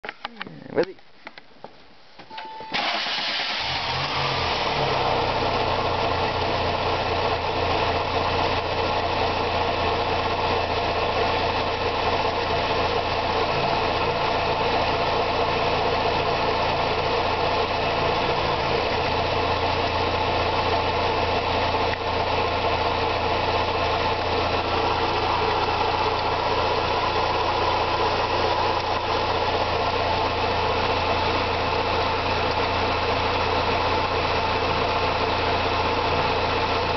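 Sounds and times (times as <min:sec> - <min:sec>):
car engine starting and idling: 0:02.3 - 0:36.9.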